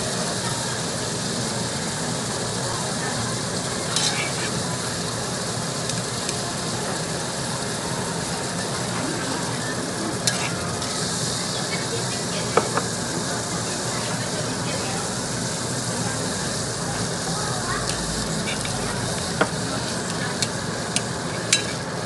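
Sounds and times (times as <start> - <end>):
meat sizzling in a stone pot: 0.0 - 22.0.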